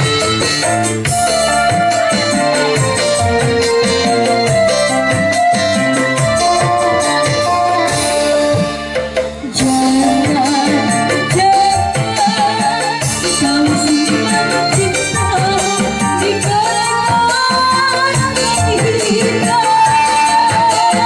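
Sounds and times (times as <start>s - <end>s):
hand drums: 0.0s - 21.0s
live band playing: 0.0s - 21.0s
woman singing into microphone: 1.3s - 21.0s.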